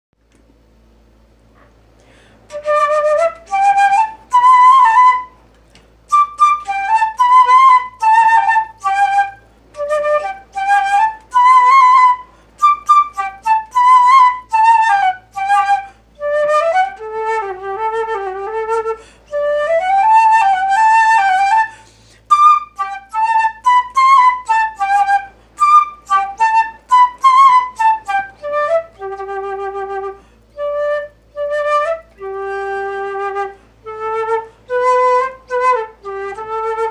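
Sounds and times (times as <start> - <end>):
solo flute melody: 2.4 - 5.4, 6.0 - 36.9.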